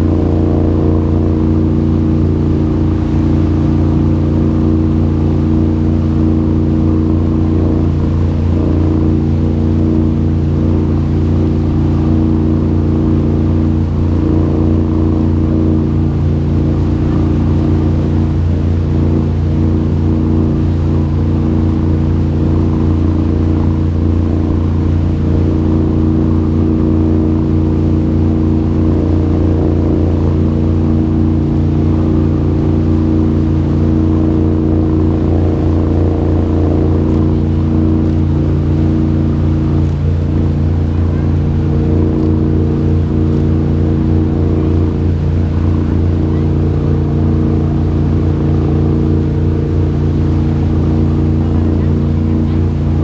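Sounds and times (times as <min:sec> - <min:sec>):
boat engine droning: 0:00.0 - 0:53.0
water wash: 0:00.0 - 0:53.0.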